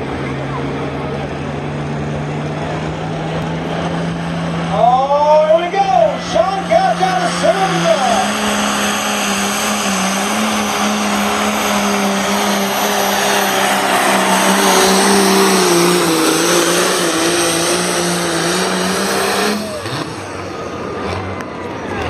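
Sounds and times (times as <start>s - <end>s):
tractor diesel engine at full power: 0.0s - 22.0s.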